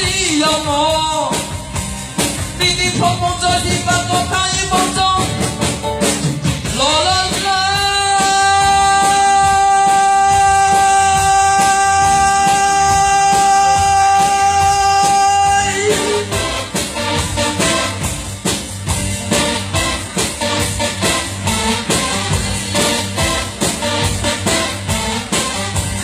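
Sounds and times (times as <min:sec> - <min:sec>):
rock band with drums and guitar: 0:00.0 - 0:26.0.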